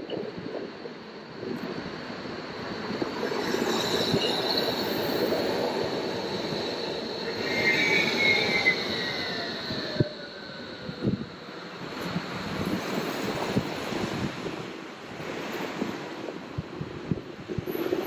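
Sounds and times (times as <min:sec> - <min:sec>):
tram wheels whining: 0:00.0 - 0:16.3, 0:17.4 - 0:18.0
tram rolling rumble: 0:00.0 - 0:18.0.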